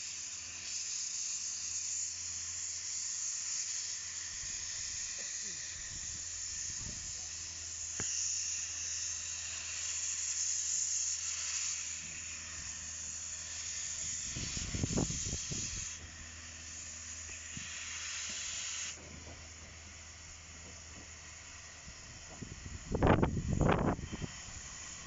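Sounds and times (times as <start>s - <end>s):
locomotive steam hissing: 0.0s - 25.0s.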